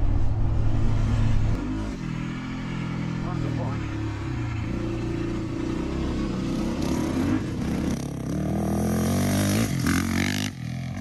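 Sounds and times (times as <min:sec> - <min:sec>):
dirt bike engine revving: 0:01.2 - 0:11.0.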